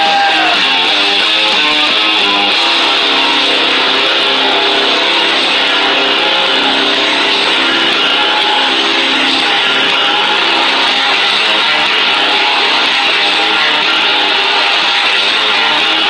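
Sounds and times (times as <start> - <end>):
rock music with electric guitars: 0.0 - 16.0.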